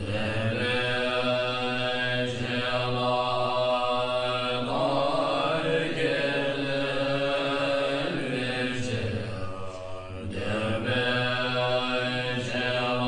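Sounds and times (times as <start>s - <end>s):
mantra chanted in held notes: 0.0s - 13.0s.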